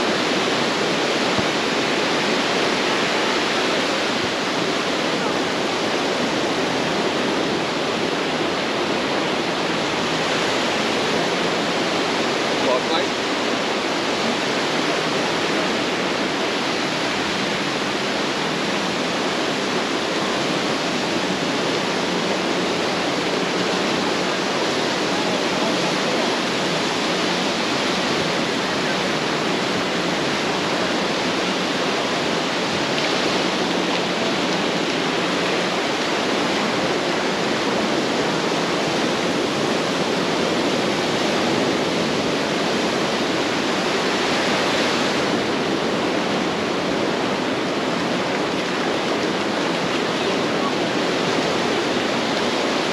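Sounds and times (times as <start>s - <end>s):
ocean surf breaking: 0.0s - 52.9s.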